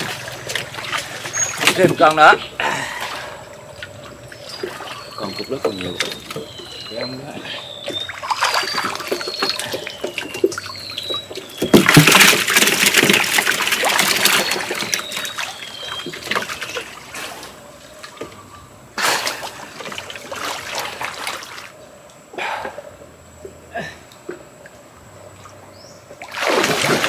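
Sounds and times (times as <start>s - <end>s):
water splashing and sloshing: 0.0s - 21.8s, 22.6s - 27.0s.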